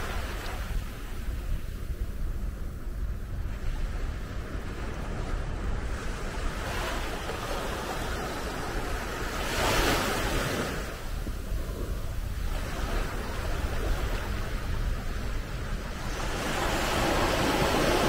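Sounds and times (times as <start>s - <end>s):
small waves lapping on beach: 0.0s - 18.0s
surf washing in: 0.0s - 18.0s
wind rumbling on microphone: 0.0s - 18.0s.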